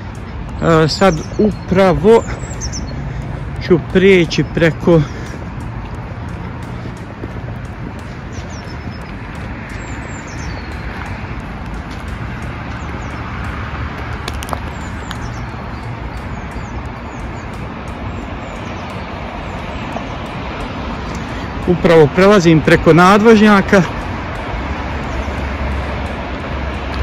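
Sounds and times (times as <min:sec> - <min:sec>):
car traffic hum: 0:00.0 - 0:27.0
small birds chirping: 0:00.0 - 0:27.0.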